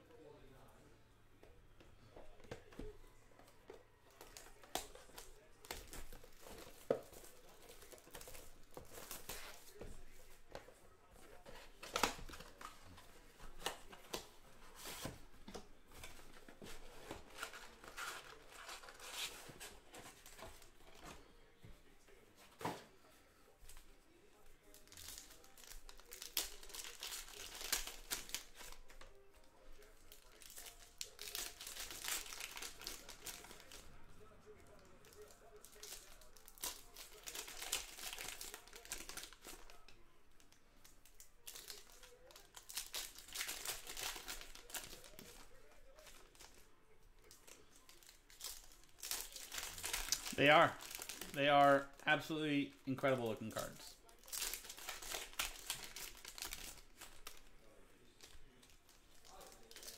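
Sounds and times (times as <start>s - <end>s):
plastic wrappers crinkling and tearing: 2.4s - 21.2s, 24.5s - 59.9s.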